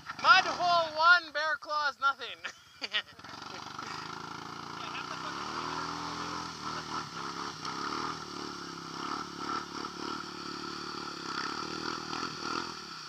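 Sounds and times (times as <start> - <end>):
atv engine revving: 0.0 - 1.2, 2.9 - 13.0.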